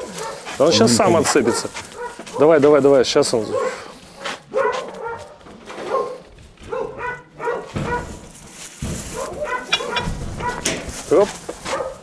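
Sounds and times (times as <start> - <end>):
dog barking: 0.0 - 2.7, 3.3 - 8.3, 9.1 - 10.9, 11.6 - 12.0.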